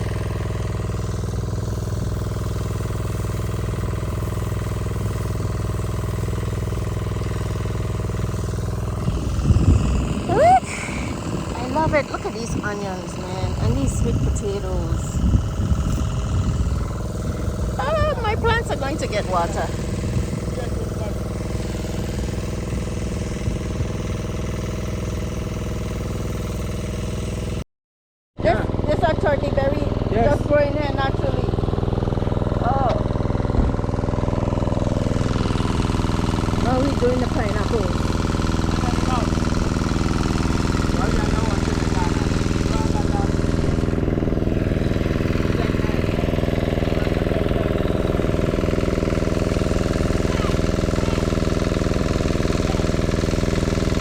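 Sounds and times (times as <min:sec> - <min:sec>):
generator engine running: 0:00.0 - 0:27.6, 0:28.4 - 0:54.0.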